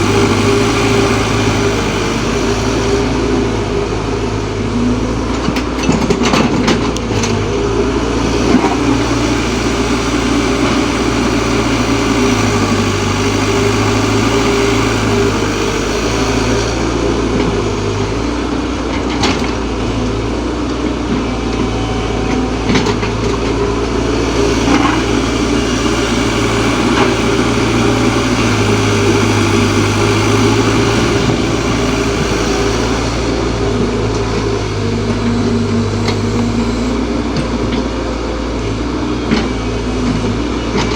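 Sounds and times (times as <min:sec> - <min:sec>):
diesel engines running: 0:00.0 - 0:40.9.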